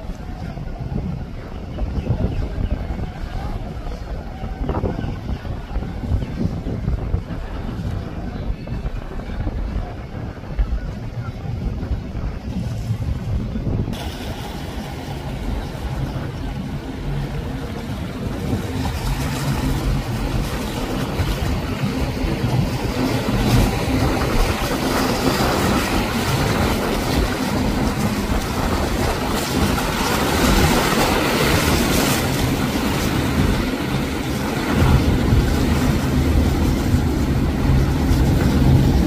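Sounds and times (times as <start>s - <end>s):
boat engines droning: 0.0s - 39.0s
water rushing from hull: 0.0s - 39.0s.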